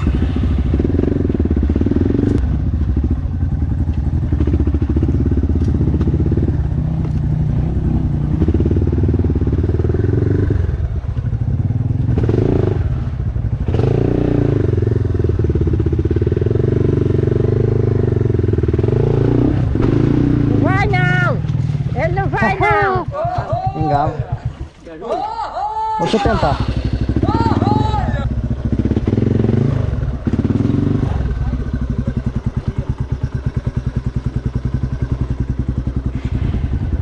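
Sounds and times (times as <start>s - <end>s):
dirt bike engine revving: 0.0s - 24.7s, 26.1s - 37.0s.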